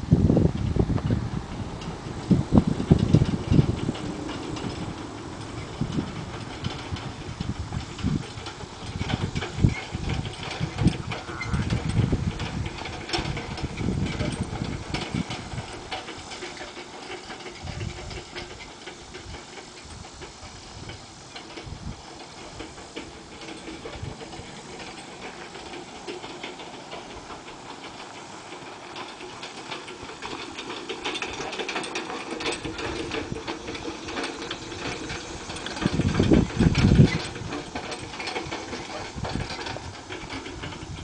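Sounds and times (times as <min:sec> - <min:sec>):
cart rattling on rolling wheels: 0:00.0 - 0:41.0
horse hoofbeats on dirt: 0:00.0 - 0:41.0.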